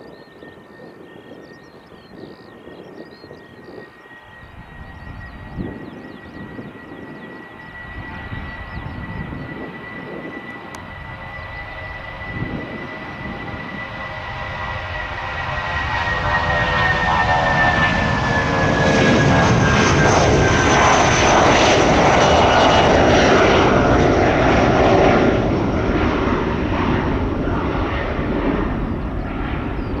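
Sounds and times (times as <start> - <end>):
jet engines roaring at takeoff: 0.0 - 30.0.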